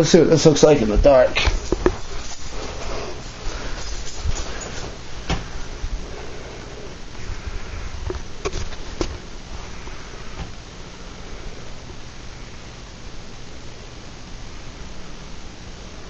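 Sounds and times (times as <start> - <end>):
steady hiss and low hum: 0.0 - 16.0.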